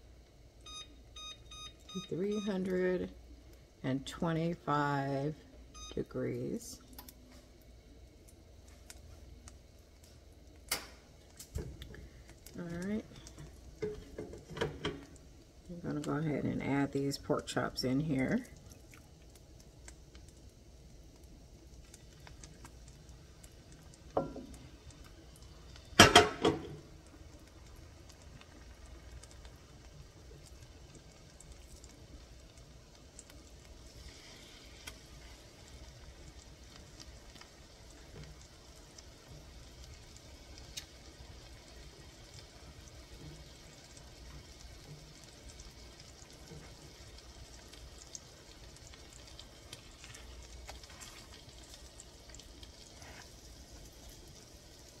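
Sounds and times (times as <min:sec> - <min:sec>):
meat sizzling in a skillet: 0:08.6 - 0:55.0.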